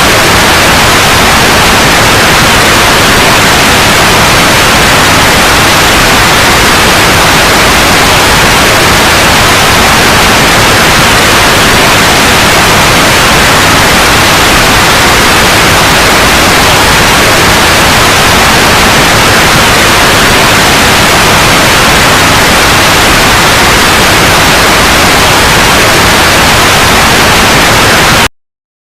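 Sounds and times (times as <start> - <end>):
loud white noise hiss: 0.0 - 28.3.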